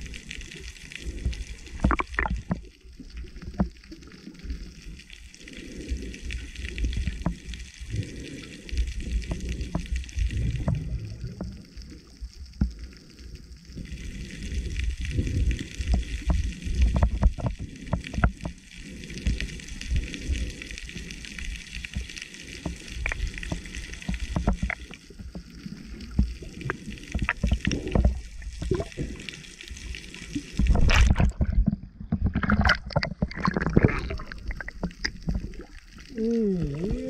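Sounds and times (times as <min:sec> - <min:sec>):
waves splashing and sloshing: 0:00.0 - 0:36.9
underwater crackles and clicks: 0:00.0 - 0:37.0
underwater rumble of moving water: 0:00.0 - 0:37.0.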